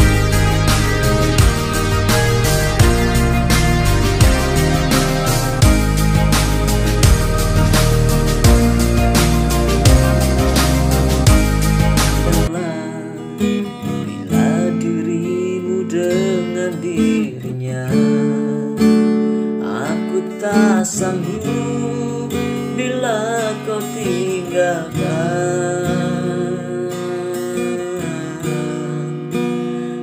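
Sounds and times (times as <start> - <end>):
pop song with acoustic guitar: 0.0 - 30.0.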